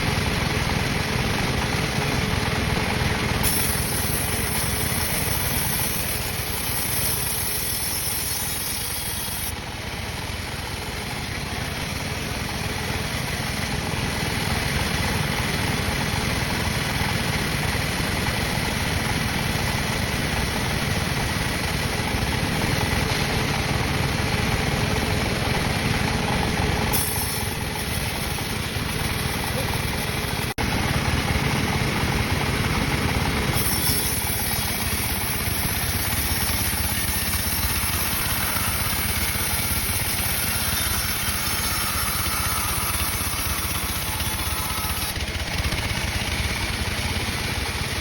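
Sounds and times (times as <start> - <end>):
sawmill saw machinery running: 0.0 - 48.0.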